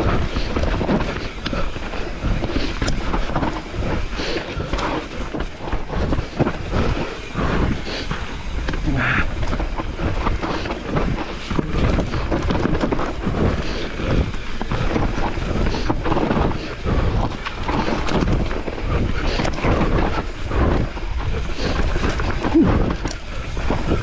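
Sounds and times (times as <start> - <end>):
bike rattling and knocking: 0.0 - 24.0
tyres rumbling over dirt and rock: 0.0 - 24.0
wind buffeting microphone: 0.0 - 24.0.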